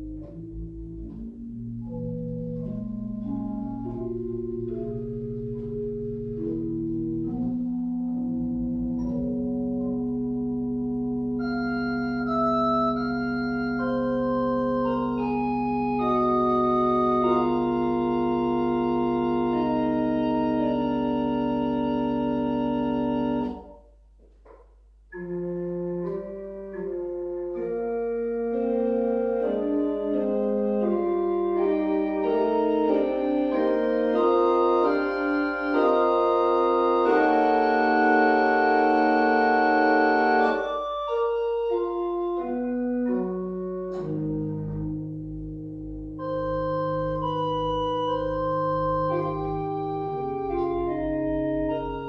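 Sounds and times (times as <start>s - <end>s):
pipe organ playing: 0.0s - 23.8s, 25.1s - 52.0s.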